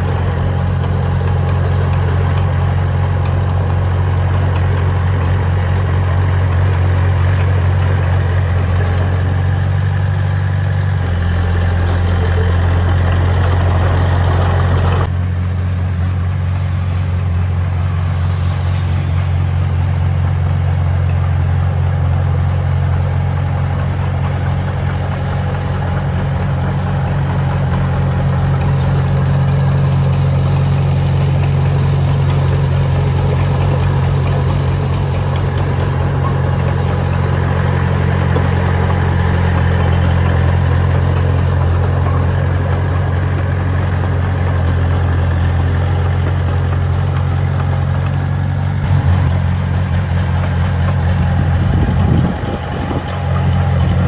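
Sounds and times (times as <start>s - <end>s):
heavy machinery diesel engine humming: 0.0s - 54.0s.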